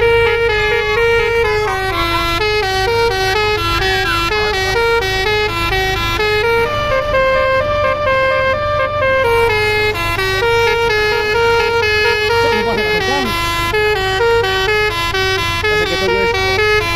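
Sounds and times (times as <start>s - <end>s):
bus horn melody: 0.0s - 16.9s
low engine hum: 0.0s - 16.9s.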